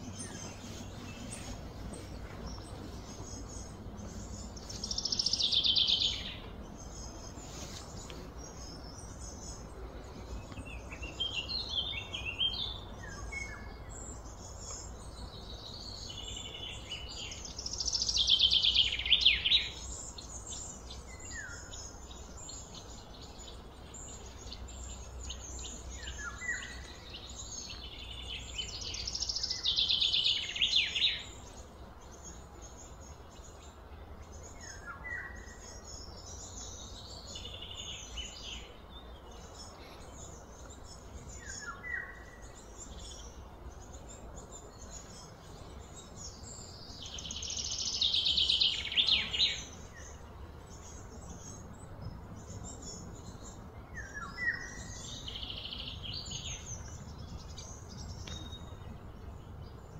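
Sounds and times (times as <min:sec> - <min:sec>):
birds singing trilled song: 0:00.0 - 0:59.9.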